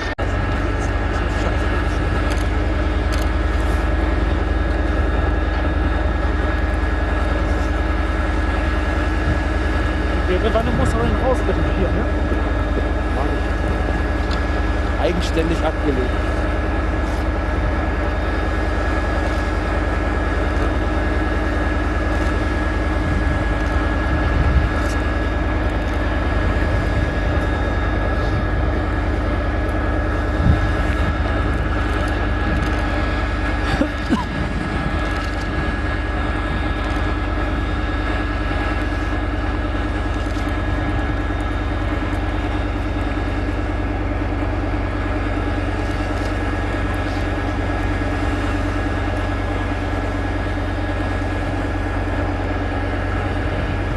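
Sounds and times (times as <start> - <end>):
diesel engine running: 0.0 - 53.9
high engine whine: 0.0 - 53.9.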